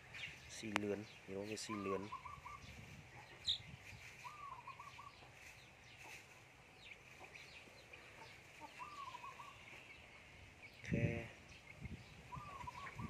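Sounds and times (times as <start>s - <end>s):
chicks peeping: 0.0s - 13.0s
hen calling: 0.0s - 13.0s.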